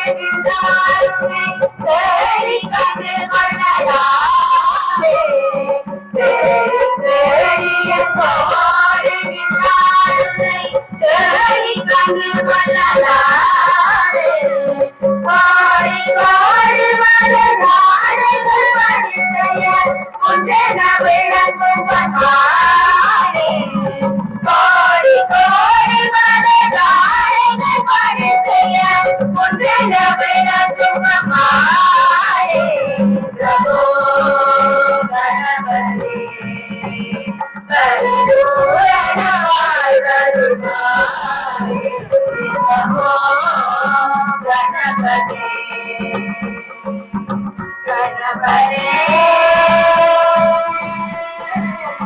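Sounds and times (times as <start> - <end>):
hand drum: 0.0 - 52.0
women singing together: 0.0 - 52.0.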